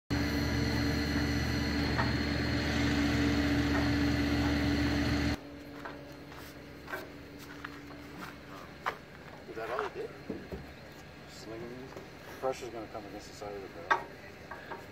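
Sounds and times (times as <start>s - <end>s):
hydraulic crane whining hum: 0.1s - 14.9s.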